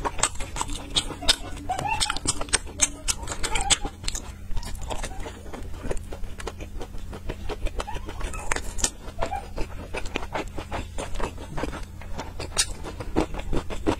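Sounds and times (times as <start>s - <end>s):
chewing and lip smacks: 0.0s - 13.9s
steady low hum: 0.0s - 13.9s.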